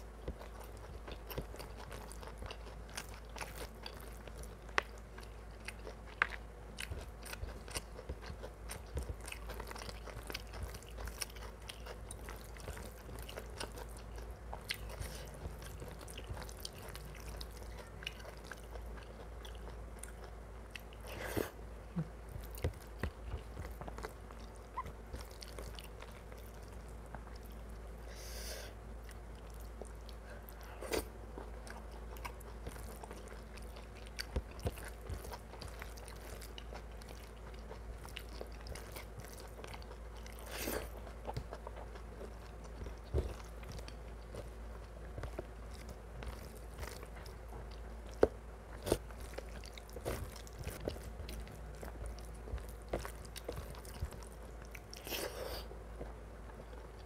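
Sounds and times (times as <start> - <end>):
close chewing and biting: 0.0 - 28.0, 29.0 - 57.0.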